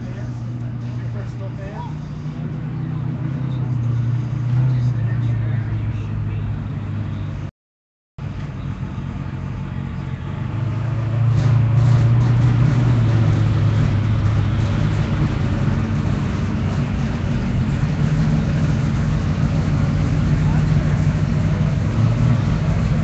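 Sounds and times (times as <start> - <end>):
engine running low hum: 0.0 - 7.5, 8.2 - 23.0.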